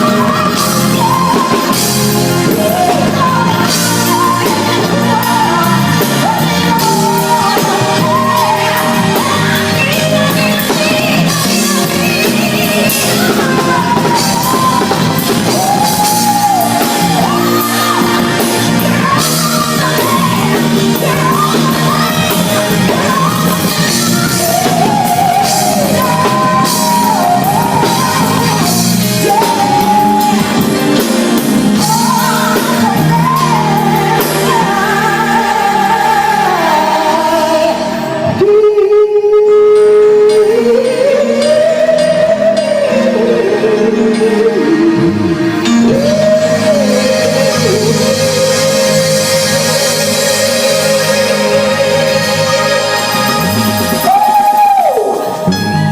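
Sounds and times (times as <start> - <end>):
live band with drums: 0.0 - 55.9
person singing long notes: 0.0 - 55.9.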